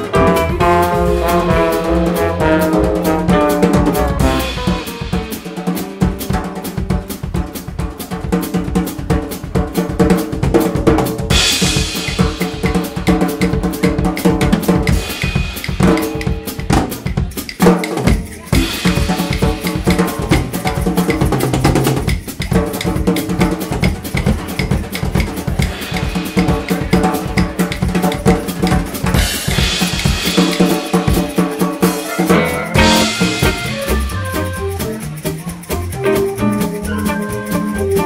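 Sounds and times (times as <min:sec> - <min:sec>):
bass drum: 0:00.0 - 0:38.0
live jazz combo playing: 0:00.0 - 0:38.0
snare drum: 0:00.0 - 0:38.0.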